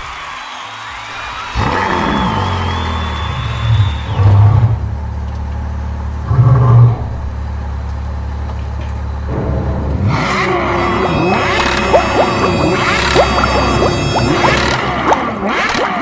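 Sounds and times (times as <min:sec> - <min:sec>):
truck engine rumble: 0:01.9 - 0:16.0.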